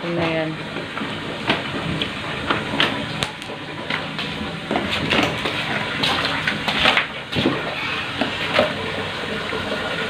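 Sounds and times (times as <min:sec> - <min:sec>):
hand sloshing water in bucket: 0:01.4 - 0:10.0.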